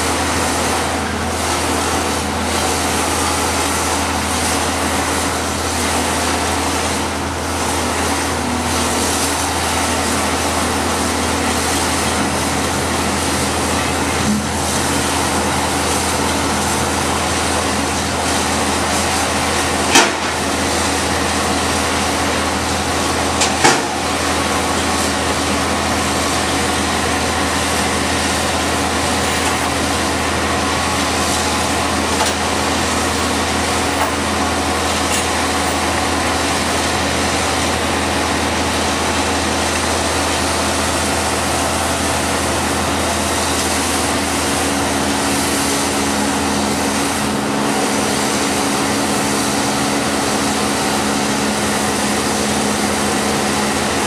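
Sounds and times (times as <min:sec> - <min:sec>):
diesel trucks and machinery droning: 0:00.0 - 0:54.0.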